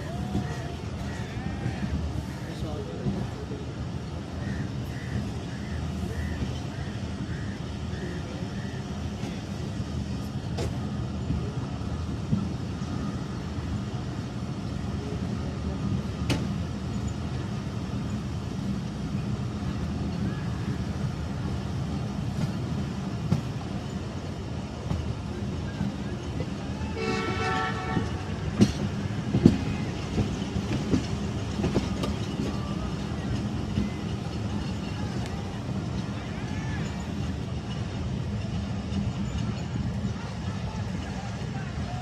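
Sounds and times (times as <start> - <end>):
train carriage rumbling: 0.0 - 42.0.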